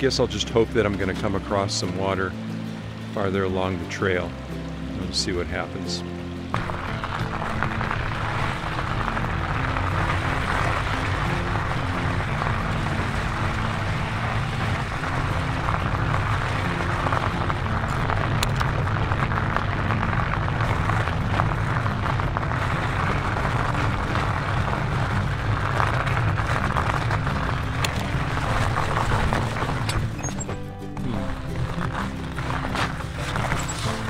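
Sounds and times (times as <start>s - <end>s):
bike tyres on packed snow: 0.0s - 34.0s
wind noise: 6.5s - 34.0s.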